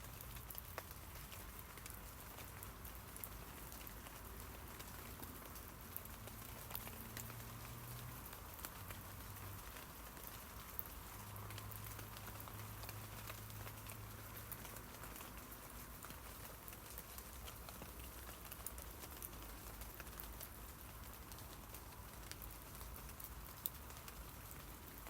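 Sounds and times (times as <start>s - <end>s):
rain pattering on leaves: 0.0s - 25.0s.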